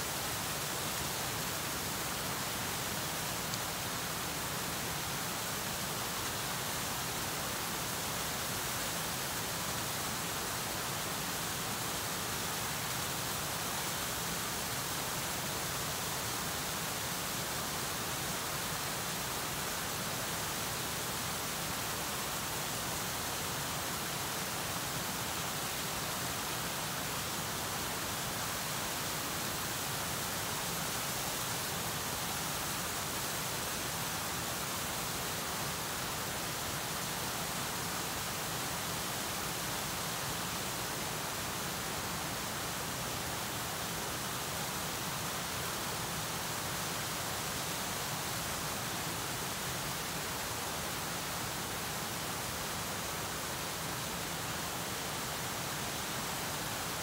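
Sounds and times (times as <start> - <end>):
waterfall pouring and splashing: 0.0 - 57.0.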